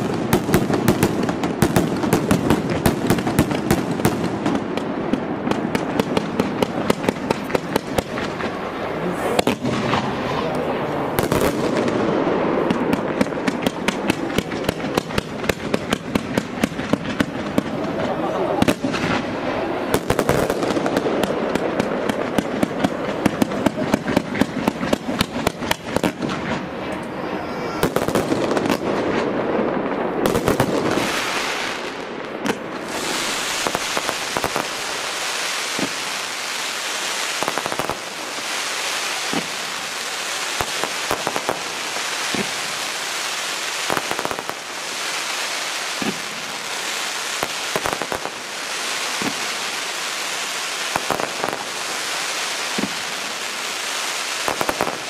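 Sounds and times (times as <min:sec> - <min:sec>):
firework bangs: 0:00.0 - 0:55.0
fireworks pops and crackles: 0:00.0 - 0:55.0.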